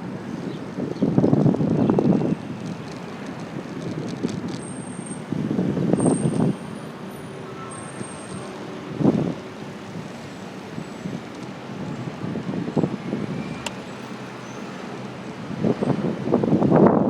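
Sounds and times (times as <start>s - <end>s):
bicycle rattle and road rumble: 0.0s - 17.0s.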